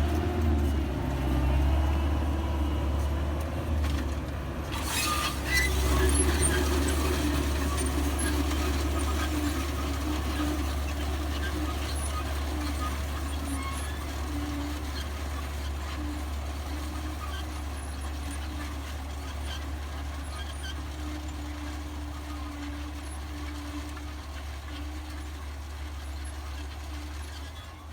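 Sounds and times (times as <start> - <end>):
tractor engine droning: 0.0 - 27.9.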